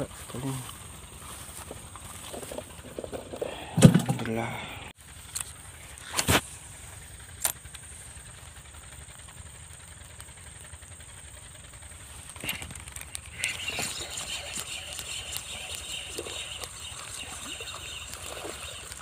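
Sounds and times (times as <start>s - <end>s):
distant engines droning: 0.0s - 19.0s.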